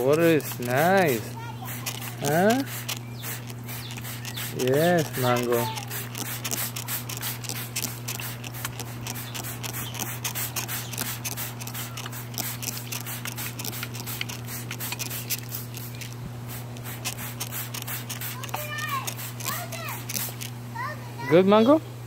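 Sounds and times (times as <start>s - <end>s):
spray bottle squirting: 0.0s - 20.6s.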